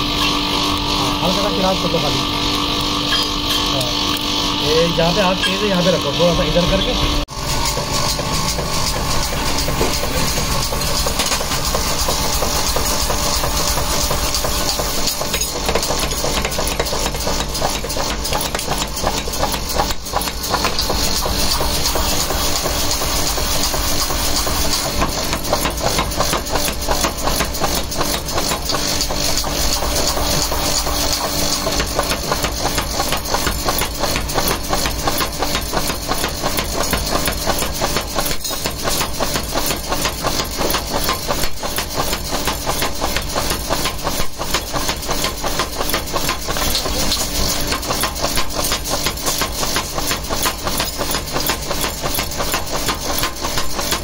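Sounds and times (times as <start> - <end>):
power hammer striking hot iron: 0.0 - 54.0.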